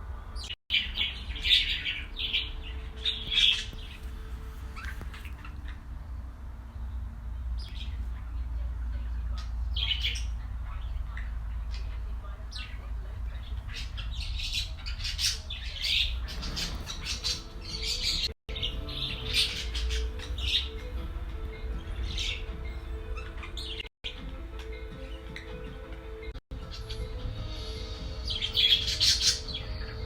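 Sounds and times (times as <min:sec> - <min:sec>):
birds squawking and chirping: 0:00.2 - 0:08.2, 0:09.1 - 0:30.0.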